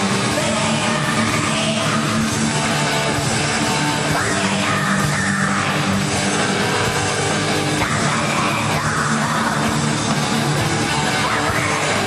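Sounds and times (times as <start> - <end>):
distorted guitar: 0.0 - 12.0
heavy metal band playing: 0.0 - 12.0.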